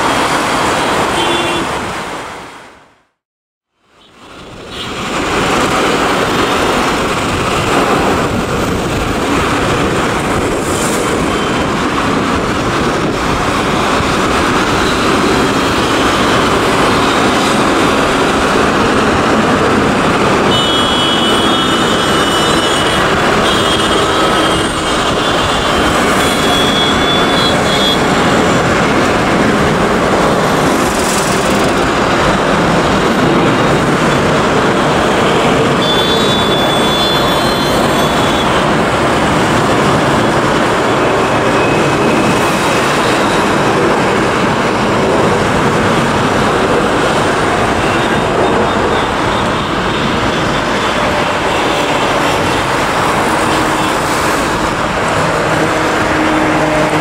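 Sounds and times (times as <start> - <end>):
jet engines roaring: 4.2 - 57.0.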